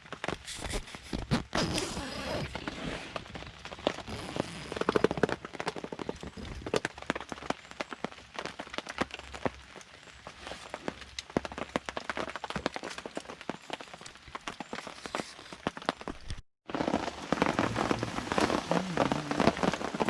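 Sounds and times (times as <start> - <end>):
campfire crackling and popping: 0.0 - 1.8, 3.2 - 20.0.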